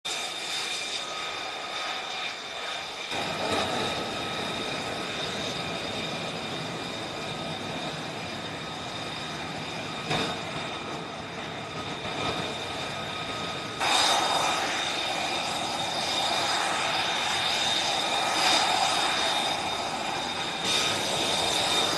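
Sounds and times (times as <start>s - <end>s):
jet engine whine and roar: 0.0s - 21.9s.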